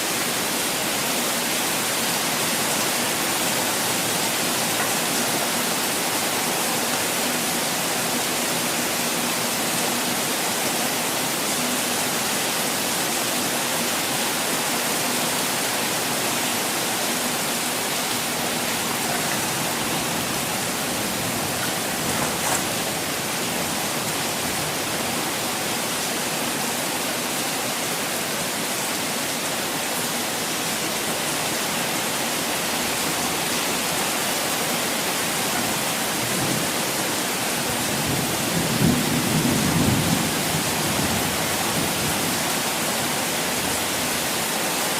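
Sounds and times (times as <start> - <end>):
water falling steadily: 0.0 - 44.9.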